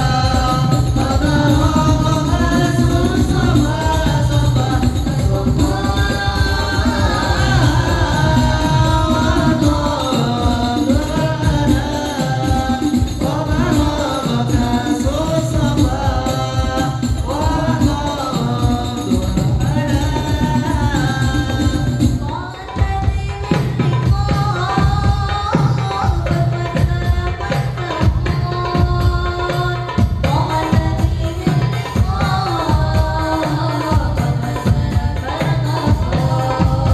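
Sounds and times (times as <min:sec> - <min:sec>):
hand drum and tambourine: 0:00.0 - 0:36.9
voices singing devotional song: 0:00.0 - 0:36.9.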